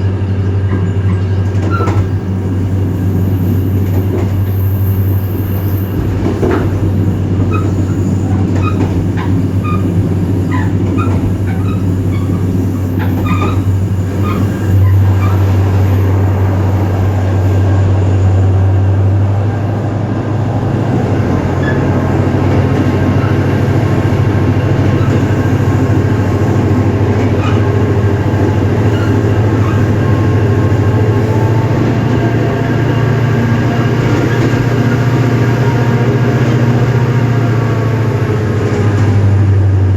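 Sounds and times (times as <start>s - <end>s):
diesel locomotive engine droning: 0.0s - 39.9s
wheels squeaking on rails: 0.2s - 39.7s.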